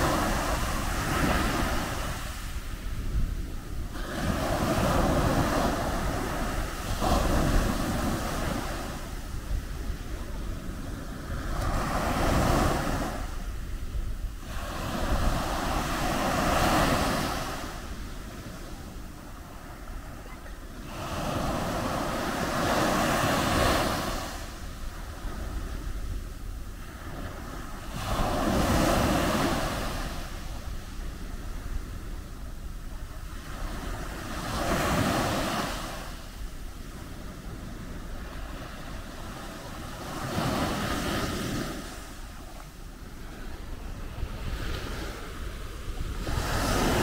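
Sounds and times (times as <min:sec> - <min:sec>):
small waves breaking on beach: 0:00.0 - 0:47.0
wind rumble on microphone: 0:00.0 - 0:47.0.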